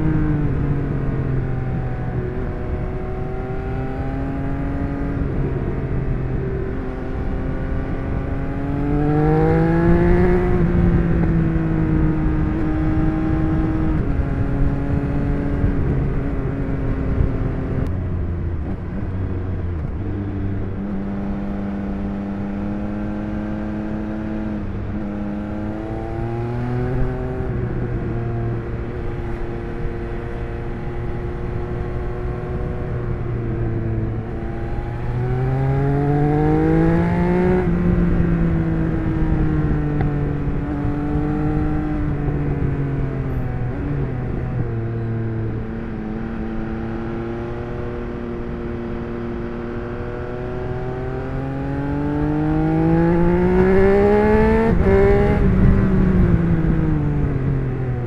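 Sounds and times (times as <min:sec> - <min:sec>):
motorcycle engine revving: 0:00.0 - 0:17.9, 0:19.8 - 0:58.0.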